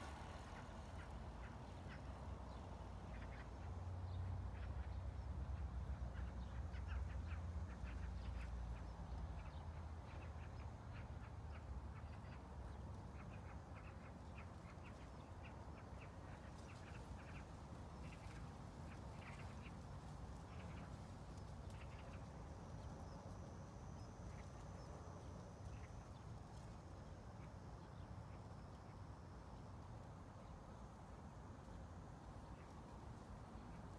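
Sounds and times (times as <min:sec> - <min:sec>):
low steady rumble: 0:00.0 - 0:33.9.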